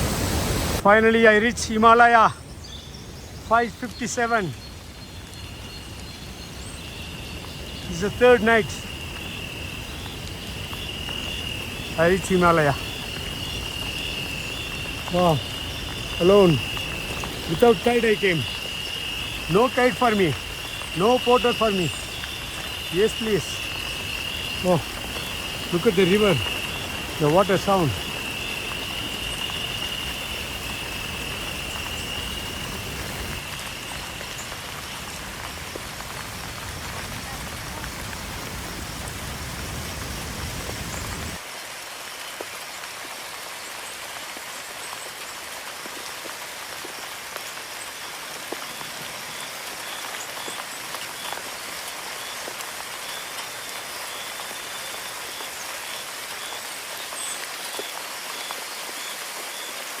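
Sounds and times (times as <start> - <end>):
running water hissing: 0.0 - 60.0.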